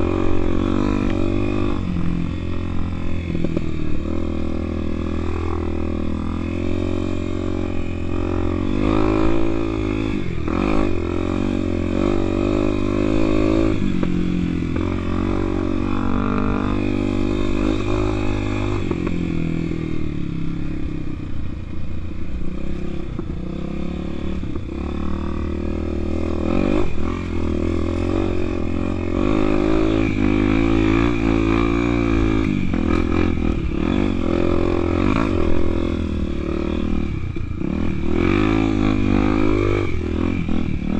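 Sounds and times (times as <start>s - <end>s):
motorcycle engine revving under load: 0.0s - 40.9s.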